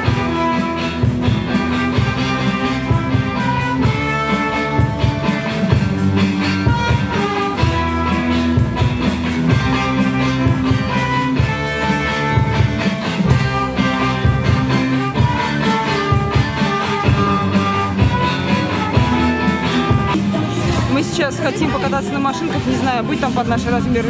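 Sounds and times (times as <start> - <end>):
electric guitar: 0.0 - 24.0
rock band playing live: 0.0 - 24.0
steady drum beat: 0.0 - 24.0.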